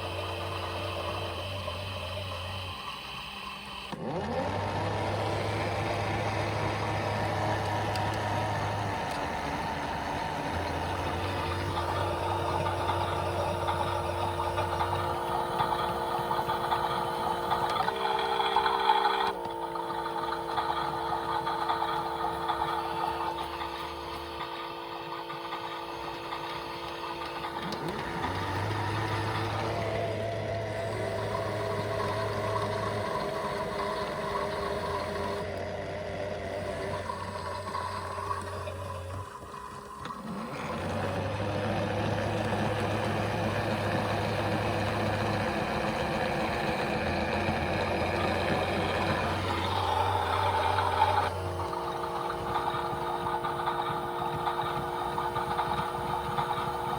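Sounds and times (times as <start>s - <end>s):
small electric motors whirring: 0.0s - 56.9s.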